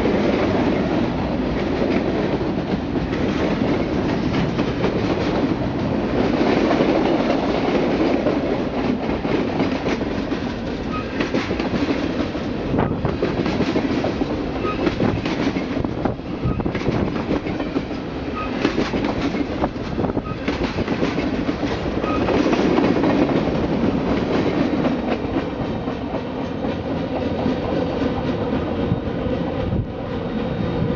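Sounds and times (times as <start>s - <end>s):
wheels clacking over rail joints: 0.0s - 28.5s
freight train rumbling past: 0.0s - 30.9s.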